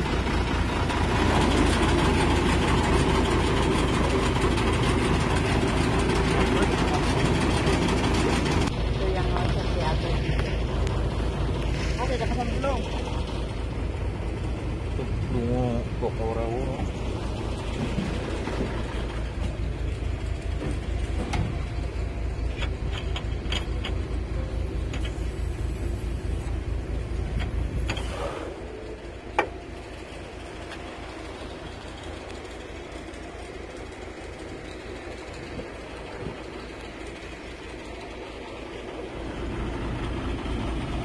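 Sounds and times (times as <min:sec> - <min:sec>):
fuel pump throbbing: 0:00.0 - 0:41.0.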